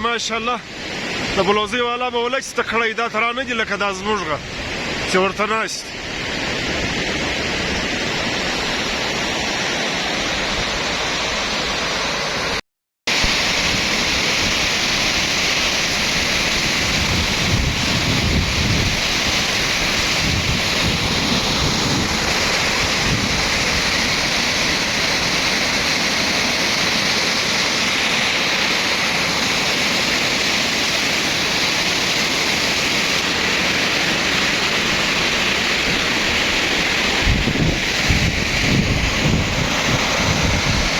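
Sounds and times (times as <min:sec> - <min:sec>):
floodwater rushing: 0:00.0 - 0:40.9.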